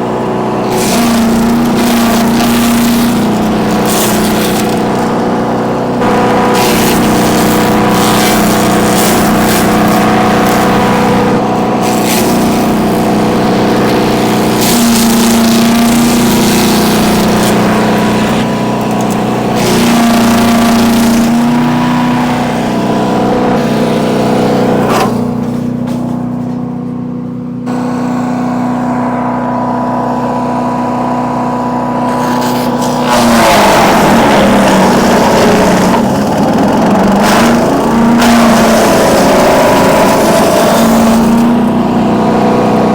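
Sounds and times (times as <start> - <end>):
wood chipper engine running: 0.0 - 42.9
branches being chipped: 0.1 - 26.5, 32.1 - 42.9.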